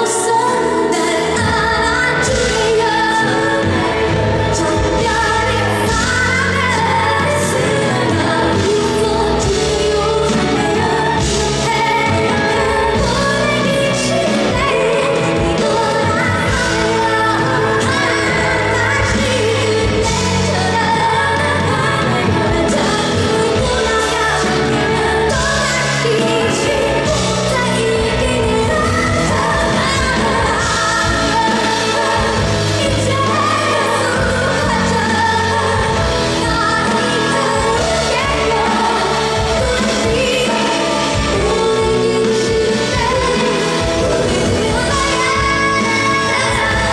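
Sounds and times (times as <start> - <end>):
band accompaniment: 0.0 - 46.9
woman singing pop ballad: 0.0 - 46.9.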